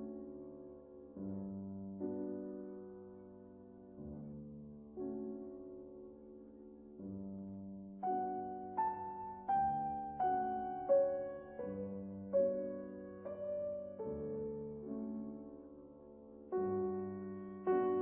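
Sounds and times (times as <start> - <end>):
slow piano melody: 0.0 - 18.0.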